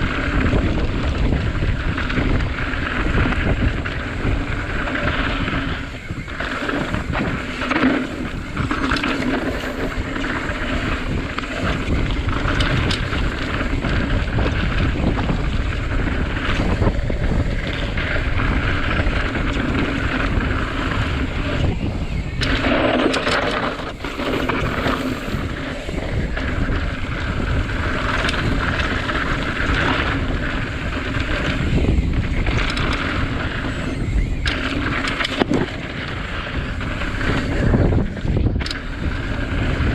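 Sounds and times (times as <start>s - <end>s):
bike knocks and rattles: 0.0s - 39.9s
bike tyres rolling on trail: 0.0s - 39.9s
wind on microphone: 0.0s - 39.9s.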